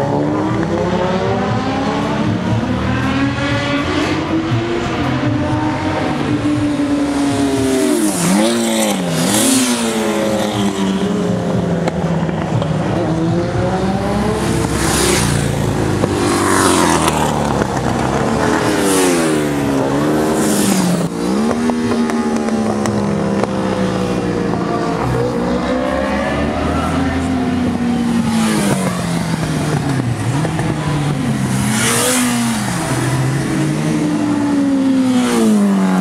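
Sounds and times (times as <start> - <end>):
racing motorcycles passing: 0.0 - 36.0.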